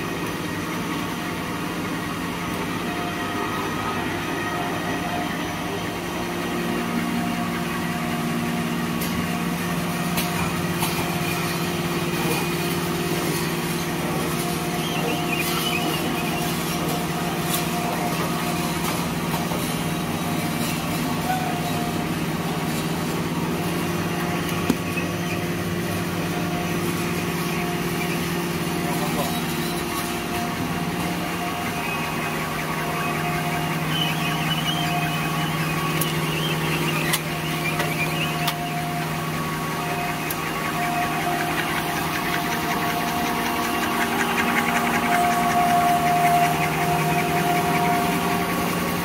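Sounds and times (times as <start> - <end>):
packing machine drone: 0.0 - 49.0.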